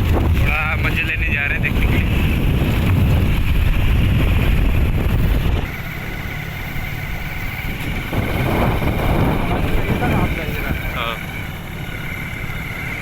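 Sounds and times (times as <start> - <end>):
motorcycle engine running: 0.0 - 13.0
road noise: 0.0 - 13.0
wind rumbling on microphone: 0.0 - 13.0.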